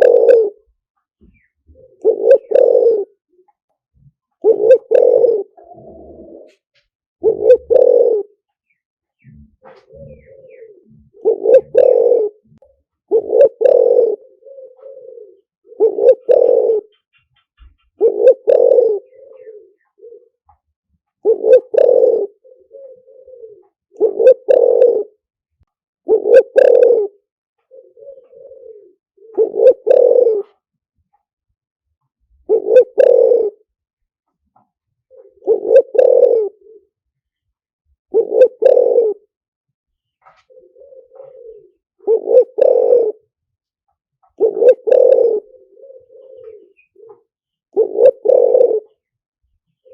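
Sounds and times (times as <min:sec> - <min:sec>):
dove cooing: 0:00.0 - 0:25.3, 0:26.0 - 0:30.7, 0:32.2 - 0:33.7, 0:34.6 - 0:37.1, 0:38.1 - 0:39.4, 0:40.1 - 0:43.6, 0:44.2 - 0:49.1, 0:49.7 - 0:49.9.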